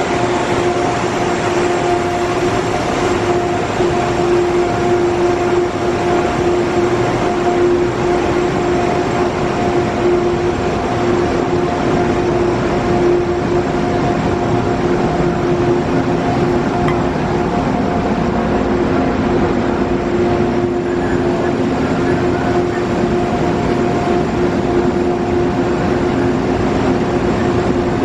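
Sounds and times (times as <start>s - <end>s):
locomotive droning hum: 0.0s - 28.0s.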